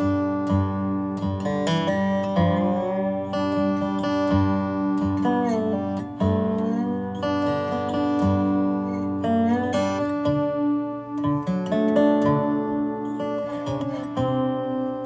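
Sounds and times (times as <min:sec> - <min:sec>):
slide resonator guitar: 0:00.0 - 0:15.0.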